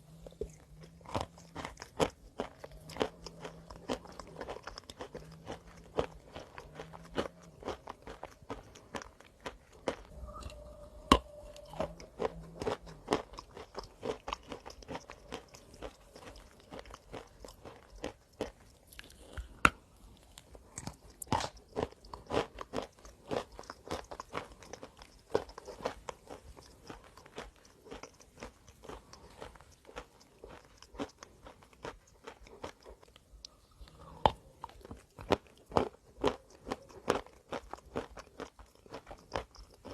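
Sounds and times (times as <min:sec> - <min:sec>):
person chewing crunchy snack: 0:00.0 - 0:39.9.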